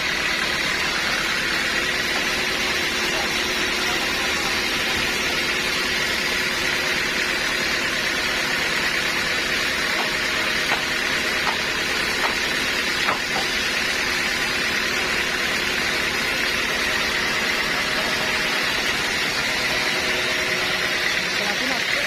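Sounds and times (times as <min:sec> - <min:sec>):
sawmill saw running: 0:00.0 - 0:22.0.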